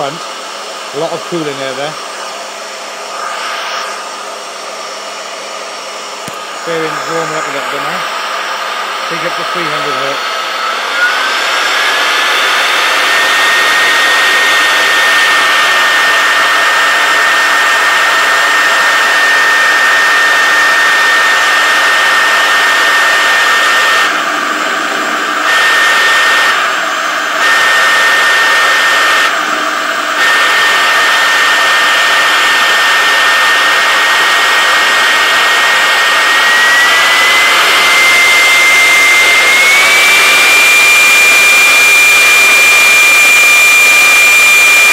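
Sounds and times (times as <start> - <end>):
cooling fan rushing: 0.0 - 44.9
router spindle high whine: 0.0 - 44.9.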